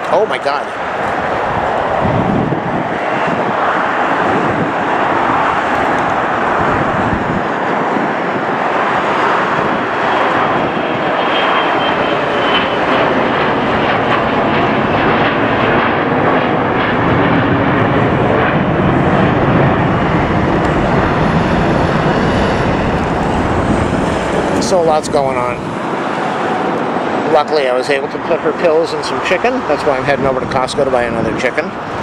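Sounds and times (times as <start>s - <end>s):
jet engines roaring overhead: 0.0s - 32.0s.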